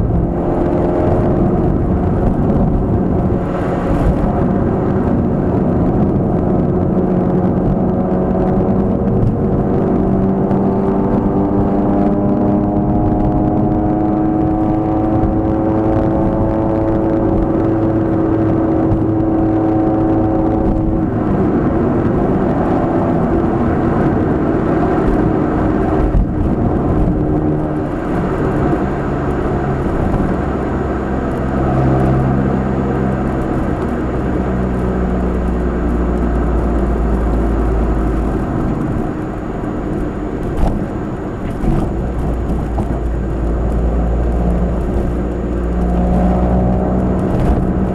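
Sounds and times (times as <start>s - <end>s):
car engine accelerating: 0.0s - 47.9s
road rumble: 0.0s - 47.9s.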